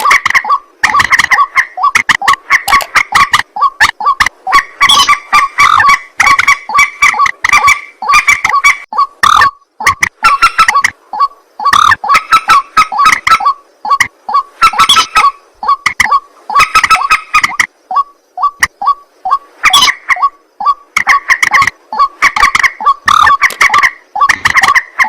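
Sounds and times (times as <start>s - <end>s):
water birds croaking calls: 0.0s - 25.0s.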